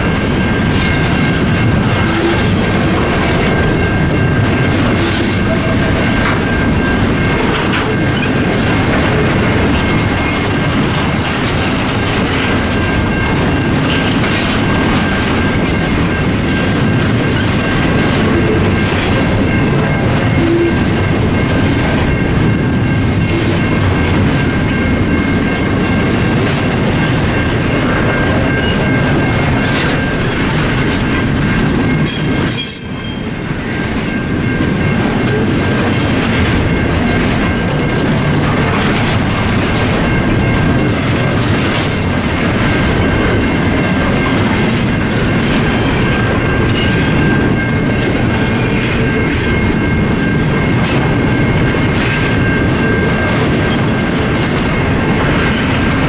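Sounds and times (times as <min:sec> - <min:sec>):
crossing bells ringing: 0:00.0 - 0:56.0
train wheels clacking on rails: 0:00.0 - 0:56.0.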